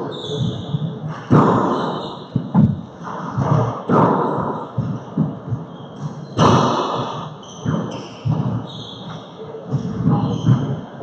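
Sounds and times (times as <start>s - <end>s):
sneakers squeaking on wood floor: 0.0s - 11.0s
handball smacks with echo: 0.5s - 5.4s, 6.0s - 10.8s.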